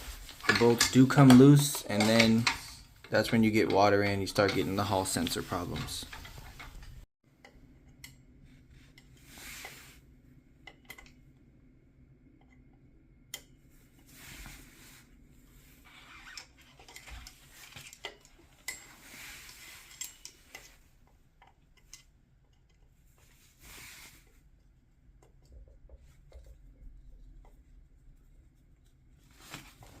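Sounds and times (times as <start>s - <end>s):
soft rubbing of parts: 0.0s - 11.4s, 13.5s - 30.0s.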